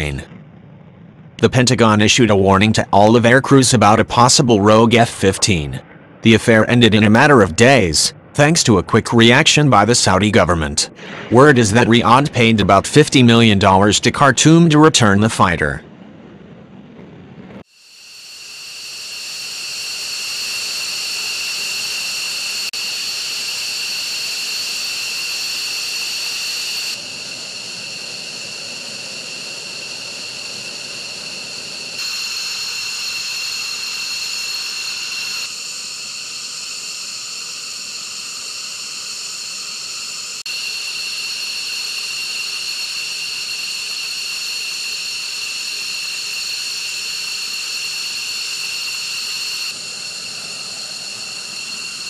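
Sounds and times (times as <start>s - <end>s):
jet engine turbine whine: 0.0s - 52.0s.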